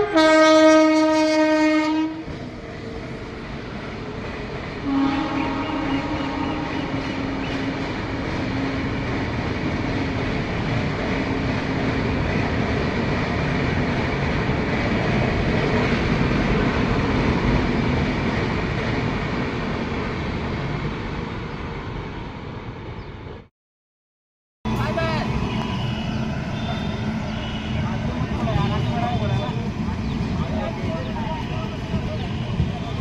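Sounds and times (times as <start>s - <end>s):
train wheels rumbling on track: 0.0s - 23.5s, 24.7s - 33.0s.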